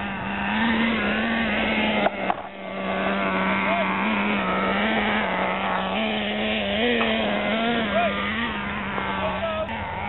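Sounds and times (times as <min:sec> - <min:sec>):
rc car motors revving: 0:00.0 - 0:10.0.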